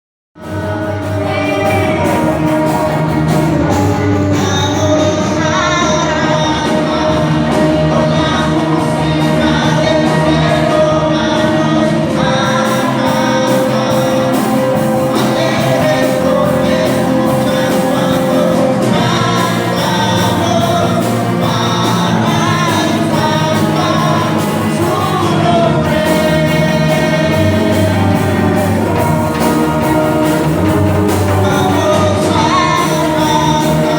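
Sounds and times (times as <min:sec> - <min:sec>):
band playing gospel music: 0:00.4 - 0:33.9
steady drum beat: 0:00.4 - 0:33.9
voices singing: 0:00.4 - 0:33.9.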